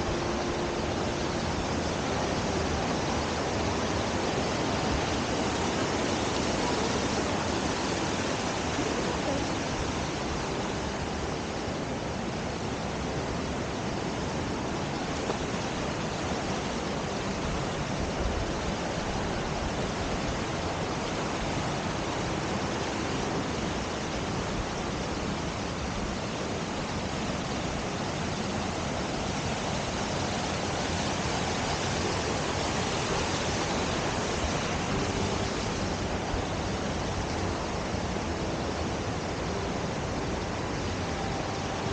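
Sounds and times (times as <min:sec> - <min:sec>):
fast-flowing stream rushing: 0:00.0 - 0:41.9.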